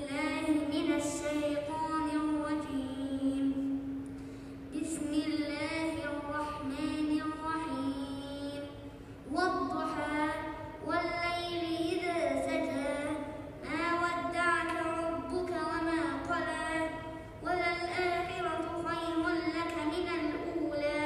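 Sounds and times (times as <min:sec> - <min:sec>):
boy chanting melodic recitation: 0:00.0 - 0:04.0, 0:04.7 - 0:21.0.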